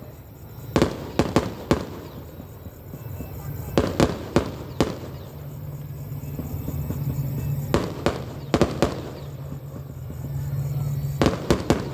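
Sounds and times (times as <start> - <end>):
fireworks bangs: 0.0 - 11.9
steady low hum: 2.1 - 11.9.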